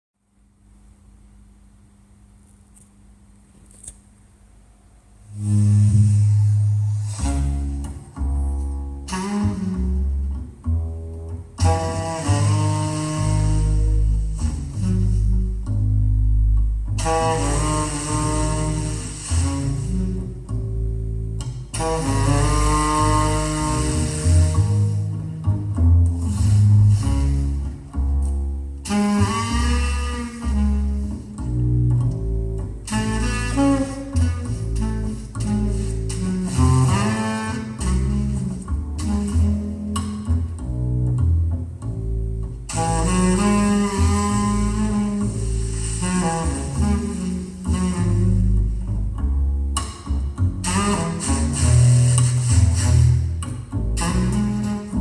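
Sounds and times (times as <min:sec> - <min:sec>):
deep bass notes: 0:04.4 - 0:55.0
string tones: 0:05.2 - 0:55.0.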